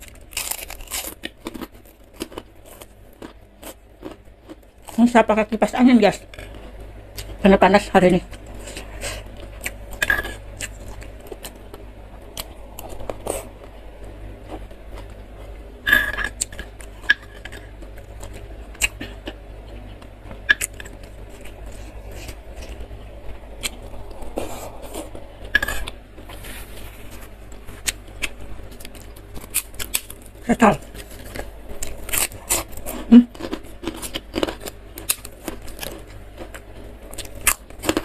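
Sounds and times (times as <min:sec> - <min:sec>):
electric fan humming: 0:00.0 - 0:38.0.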